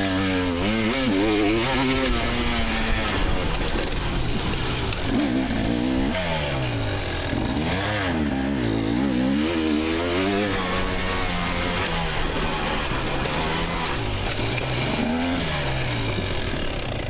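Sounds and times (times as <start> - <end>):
two-stroke dirt bike engine revving: 0.0 - 17.0.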